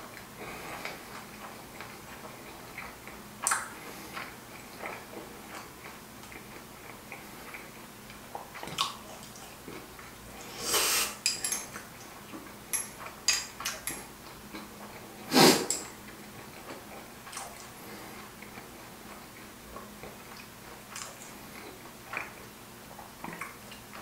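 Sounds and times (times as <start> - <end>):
wet chewing: 0.1 - 24.0.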